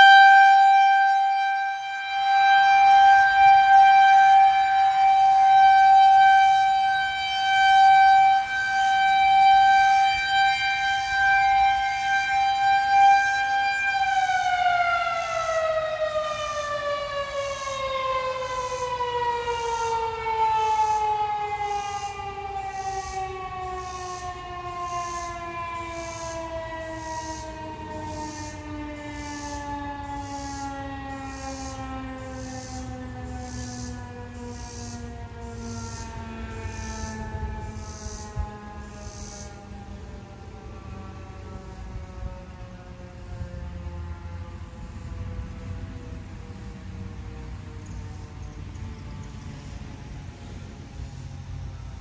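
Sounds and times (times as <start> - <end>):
rotating warning siren: 0.0 - 52.0.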